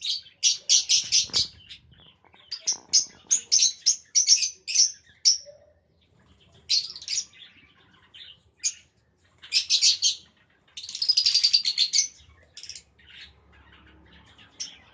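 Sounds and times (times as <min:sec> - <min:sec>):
lovebirds chirping: 0:00.0 - 0:14.9.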